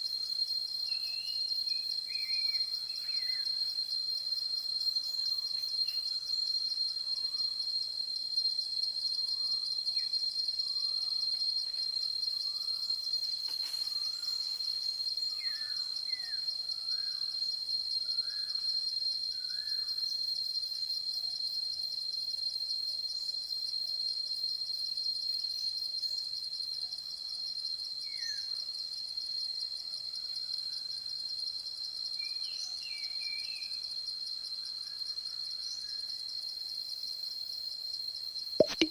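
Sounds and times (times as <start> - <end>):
insect chorus trilling: 0.0 - 38.8.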